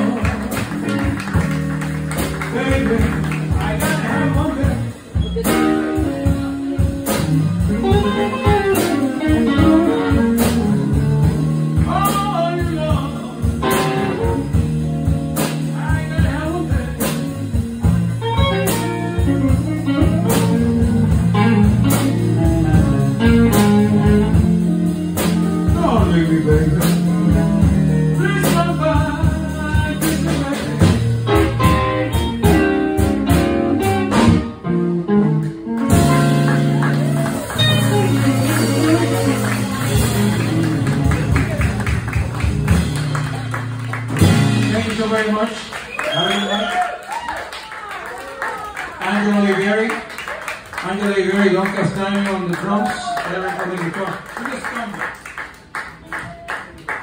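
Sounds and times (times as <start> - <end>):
live band with guitars: 0.0 - 57.0.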